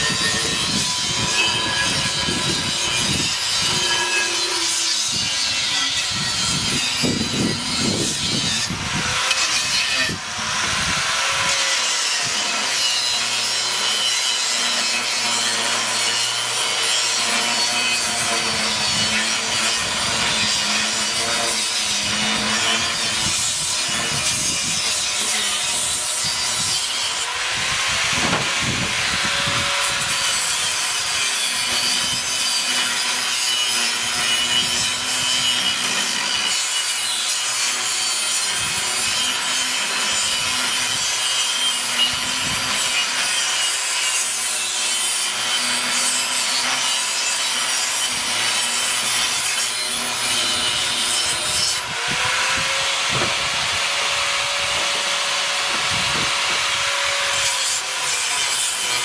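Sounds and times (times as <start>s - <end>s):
angle grinder cutting steel: 0.0s - 59.0s.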